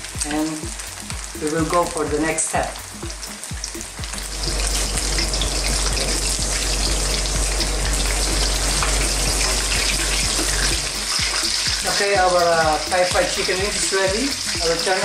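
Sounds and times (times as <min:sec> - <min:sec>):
chicken deep-frying in oil sizzling: 0:00.0 - 0:15.0.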